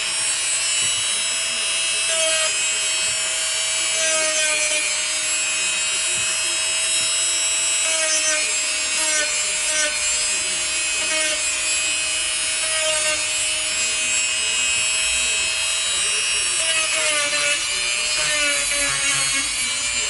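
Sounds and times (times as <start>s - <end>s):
rotary tool motor whine: 0.0s - 20.0s.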